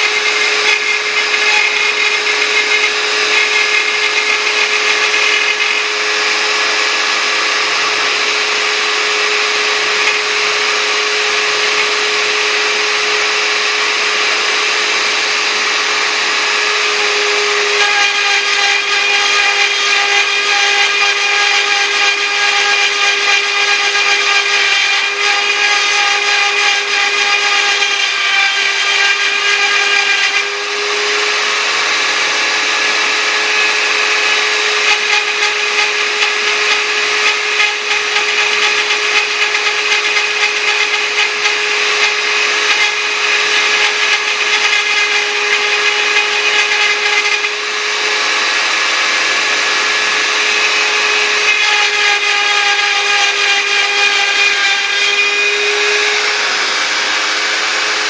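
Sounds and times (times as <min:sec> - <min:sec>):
cnc router spindle whine: 0:00.0 - 0:58.0
cutter rasping: 0:00.0 - 0:58.0.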